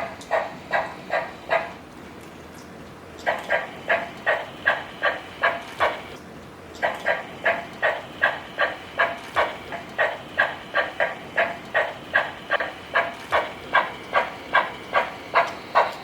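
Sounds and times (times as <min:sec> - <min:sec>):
toy steam locomotive chugging: 0:00.0 - 0:01.8, 0:03.2 - 0:06.2, 0:06.8 - 0:16.0.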